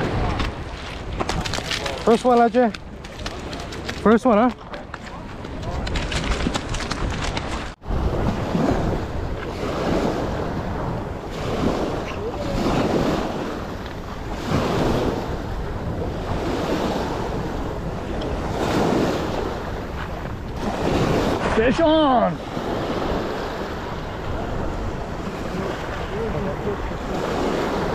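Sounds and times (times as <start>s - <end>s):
waves washing over pebbles: 0.0s - 4.6s, 5.2s - 27.9s
wind buffeting microphone: 0.0s - 27.9s.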